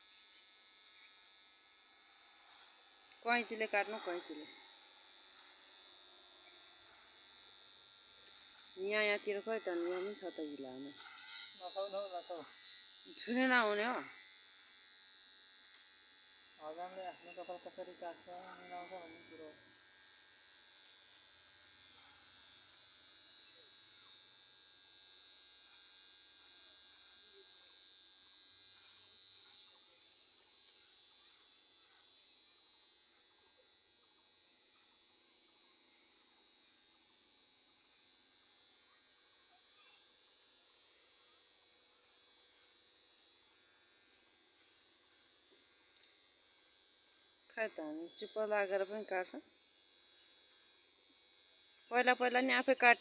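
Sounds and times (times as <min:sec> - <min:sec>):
electric hair clipper buzzing: 0:00.0 - 0:53.0.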